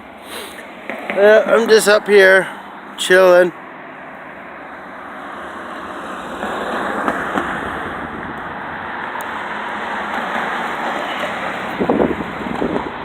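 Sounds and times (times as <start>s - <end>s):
car approaching: 0.0s - 13.0s.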